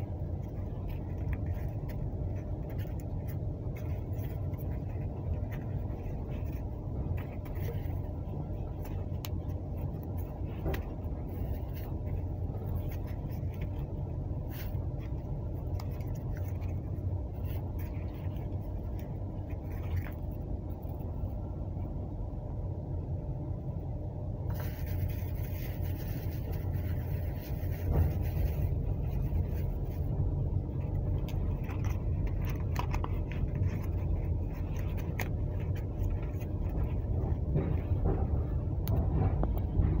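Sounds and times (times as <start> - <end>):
wrapping rustling and crinkling: 0.0 - 22.0, 24.5 - 40.0
train rumble: 0.0 - 40.0.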